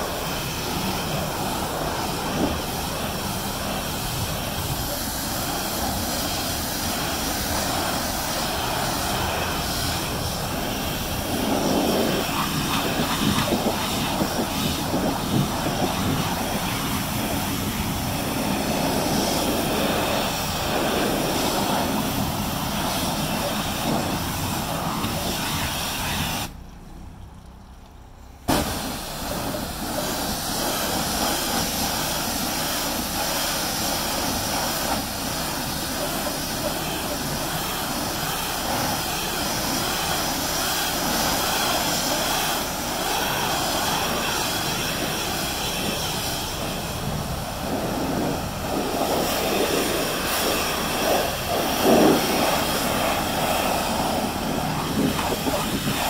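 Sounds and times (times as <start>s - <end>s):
pressure washer spraying water: 0.0s - 26.6s, 28.5s - 56.0s.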